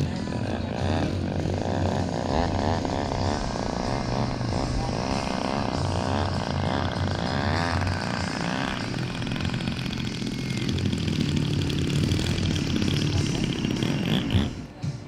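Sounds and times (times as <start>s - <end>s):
model plane engine and propeller: 0.0s - 15.0s.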